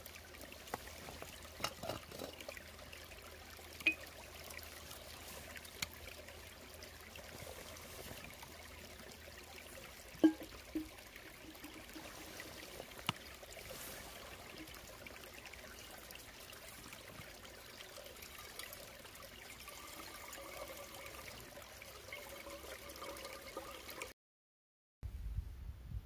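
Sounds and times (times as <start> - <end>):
water trickling and gurgling: 0.0 - 24.1.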